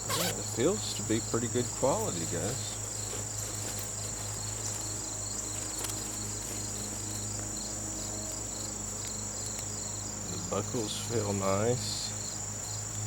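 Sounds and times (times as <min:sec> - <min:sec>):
insect chirping: 0:00.0 - 0:13.0
insects trilling: 0:00.0 - 0:13.0
low steady hum: 0:00.0 - 0:13.0.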